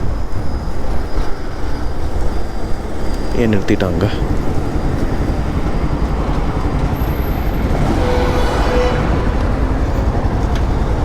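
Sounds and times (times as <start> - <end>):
road and wind rumble: 0.0 - 11.0.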